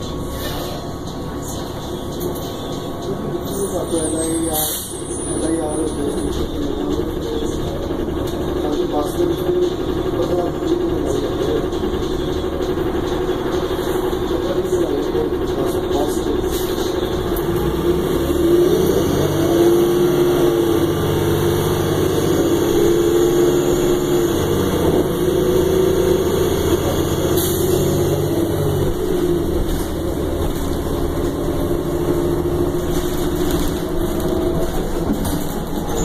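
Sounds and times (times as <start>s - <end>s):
bus engine drone: 0.0s - 36.0s.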